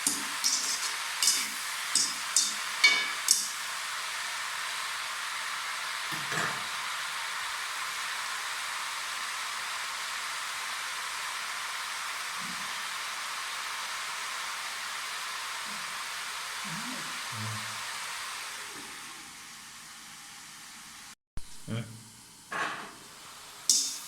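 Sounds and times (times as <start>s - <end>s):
food sizzling in hot oil: 0.0s - 21.0s, 23.0s - 24.0s.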